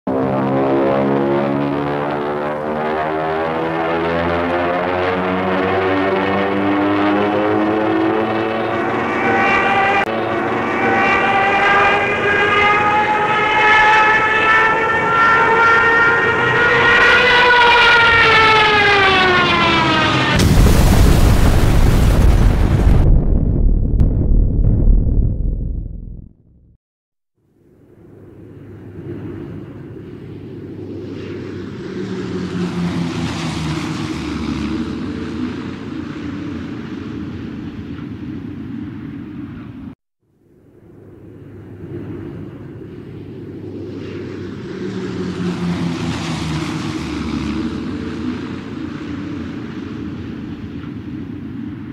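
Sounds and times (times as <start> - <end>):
propeller plane engine droning: 0.1 - 22.9, 27.5 - 51.9.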